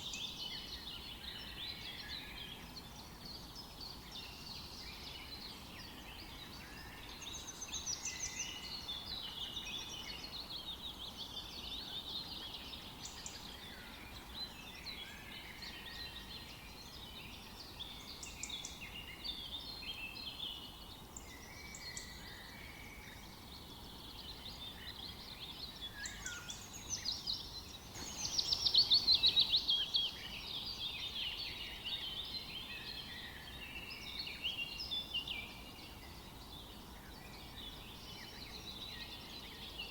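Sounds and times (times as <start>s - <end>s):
faint background hiss: 0.0s - 39.9s
songbirds chirping and singing: 0.0s - 39.9s.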